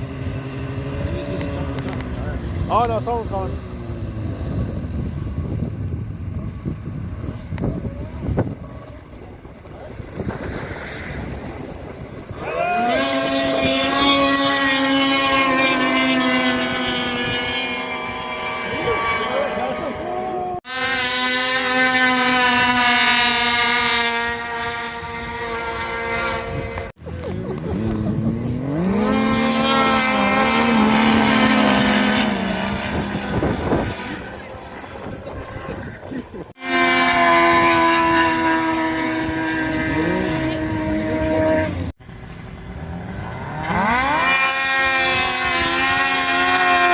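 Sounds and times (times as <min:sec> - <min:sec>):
wind on microphone: 0:00.0 - 0:20.6, 0:22.1 - 0:46.9
small racing engine revving: 0:00.0 - 0:46.9.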